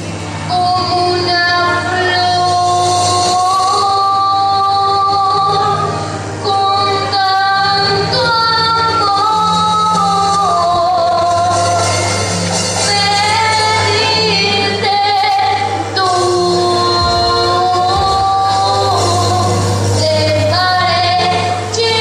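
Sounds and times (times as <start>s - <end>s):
musical accompaniment: 0.0s - 22.0s
woman singing: 0.5s - 22.0s.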